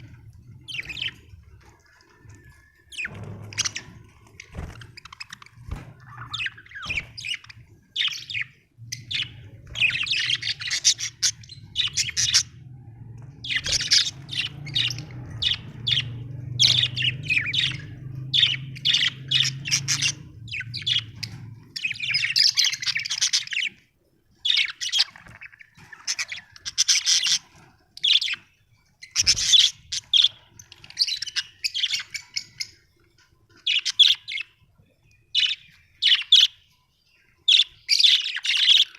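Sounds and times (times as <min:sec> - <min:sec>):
budgerigars chirping: 0:00.0 - 0:12.6, 0:13.3 - 0:36.7, 0:37.4 - 0:38.9.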